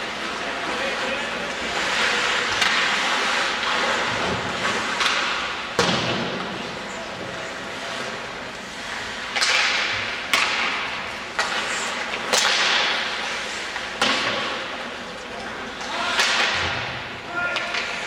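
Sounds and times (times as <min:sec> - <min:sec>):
hissing rink echo: 0:00.0 - 0:18.0
hockey sticks and puck cracking: 0:00.1 - 0:06.8, 0:07.9 - 0:18.0.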